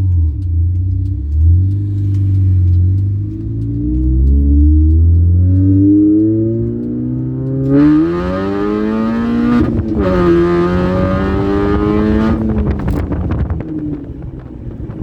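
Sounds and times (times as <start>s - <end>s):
car engine accelerating: 0.0s - 15.0s
gear change: 0.0s - 15.0s.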